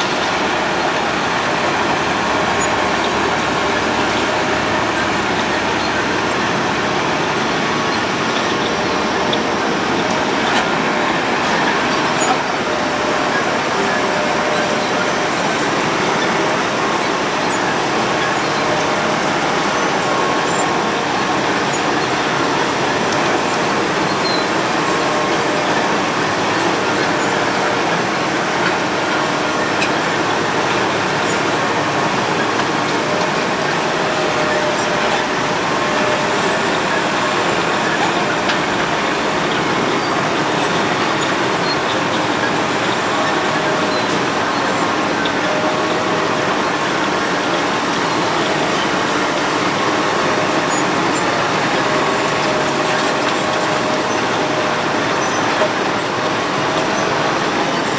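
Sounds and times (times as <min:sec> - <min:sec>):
road milling machine noise: 0:00.0 - 0:57.9.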